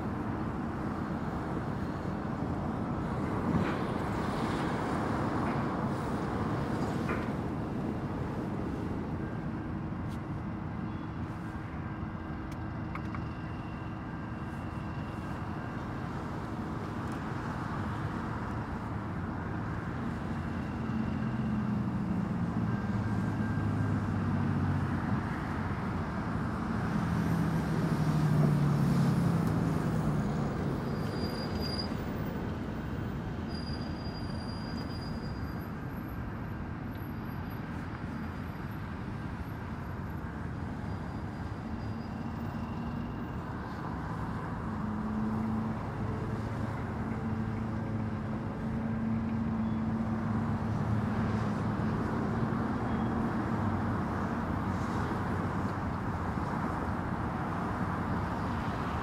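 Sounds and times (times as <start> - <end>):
heavy vehicle engine: 0.0 - 59.0
highway traffic passing: 0.0 - 59.0.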